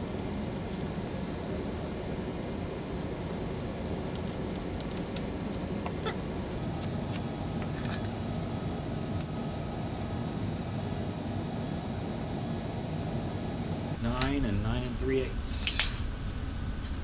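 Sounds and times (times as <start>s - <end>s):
low workshop rumble: 0.0s - 17.0s.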